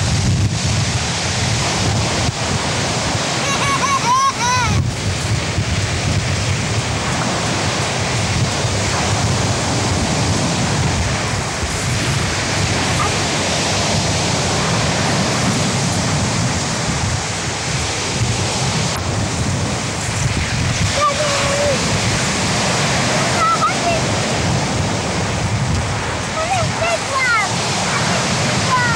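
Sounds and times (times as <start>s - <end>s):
surf breaking on shingle beach: 0.0s - 28.9s
wind buffeting microphone: 0.0s - 28.9s.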